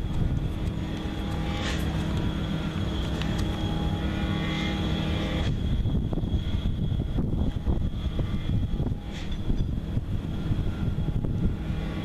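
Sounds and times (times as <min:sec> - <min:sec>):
motor drone with high whine: 0:00.0 - 0:12.0.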